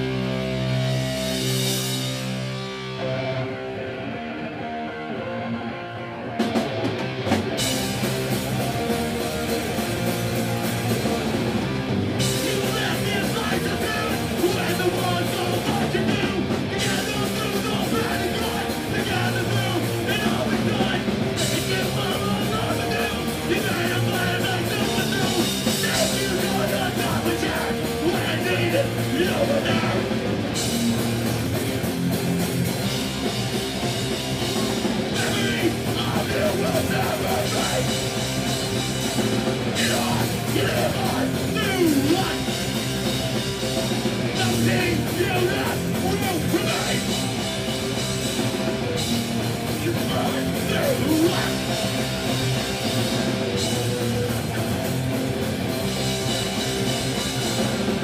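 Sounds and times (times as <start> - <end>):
drums and cymbals crashing: 0.0 - 3.1, 6.4 - 58.0
distorted electric guitar: 0.0 - 58.0
punk band playing live: 0.0 - 58.0.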